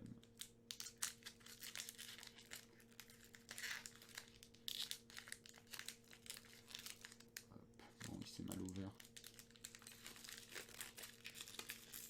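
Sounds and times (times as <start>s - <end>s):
foil wrapper crinkling and tearing: 0.2s - 12.0s.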